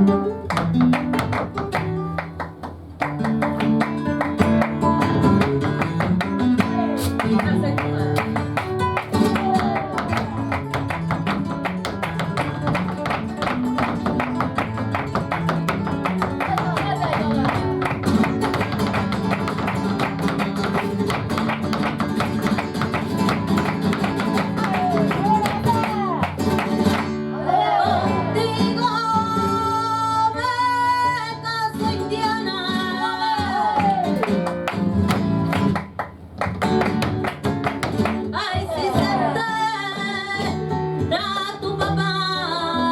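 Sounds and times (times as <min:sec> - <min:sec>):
flamenco guitar strumming: 0:00.0 - 0:42.9
person singing flamenco: 0:00.0 - 0:42.9.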